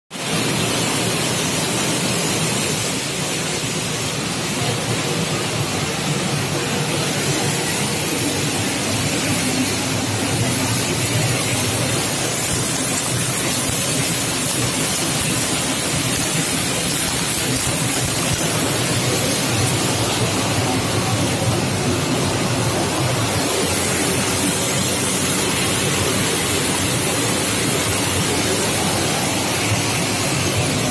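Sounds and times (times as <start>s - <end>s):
recycling machinery running: 0.1s - 30.9s.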